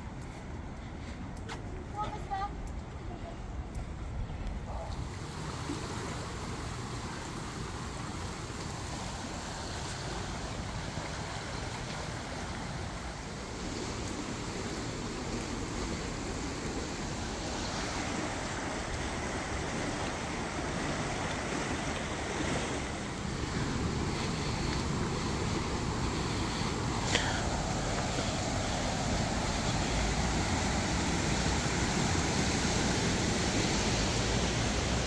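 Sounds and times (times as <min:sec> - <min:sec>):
steady rushing outdoor noise: 0:00.0 - 0:35.0.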